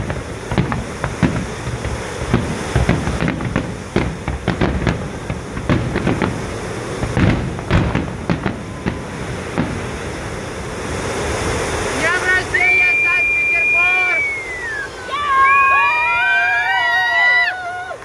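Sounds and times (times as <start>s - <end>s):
firework shells bursting: 0.0s - 16.8s
continuous low rumble: 0.0s - 18.0s.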